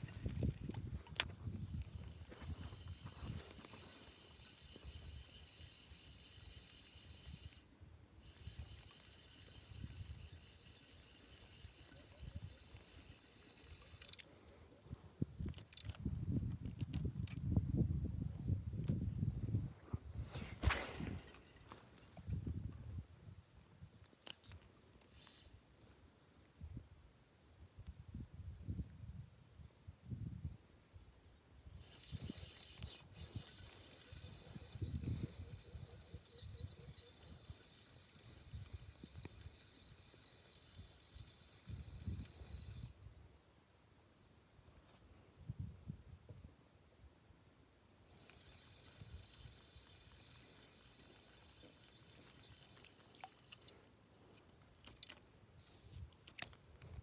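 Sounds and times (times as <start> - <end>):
insect chirring: 0.0 - 57.0.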